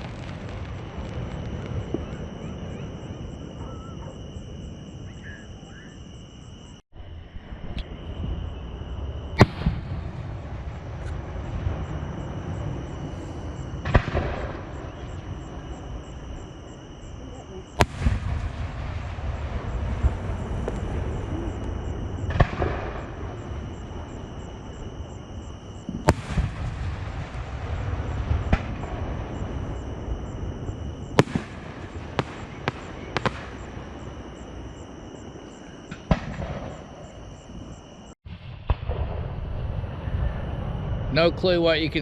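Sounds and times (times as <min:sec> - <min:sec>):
fireworks bangs and crackle: 0:00.0 - 0:05.5, 0:07.6 - 0:42.0
insects chirring: 0:00.0 - 0:42.0.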